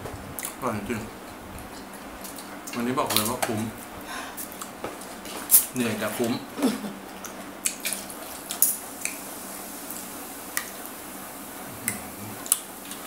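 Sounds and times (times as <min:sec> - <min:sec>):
soft eating sounds: 0:00.2 - 0:10.9, 0:11.6 - 0:13.0.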